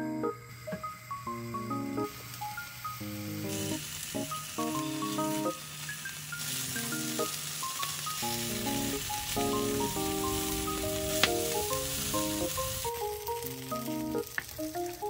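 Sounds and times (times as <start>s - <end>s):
gentle melodic background music: 0.0s - 15.0s
food sizzling in frying pan: 0.5s - 15.0s.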